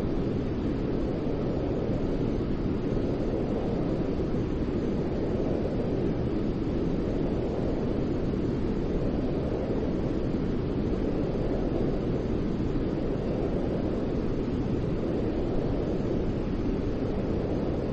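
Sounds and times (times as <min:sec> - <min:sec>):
low rushing white noise: 0:00.0 - 0:17.9.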